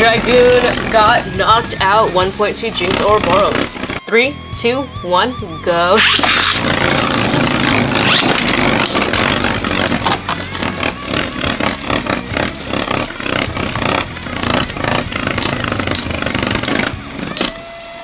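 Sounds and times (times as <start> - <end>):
spinning tops whirring: 0.0 - 4.1, 6.0 - 18.0.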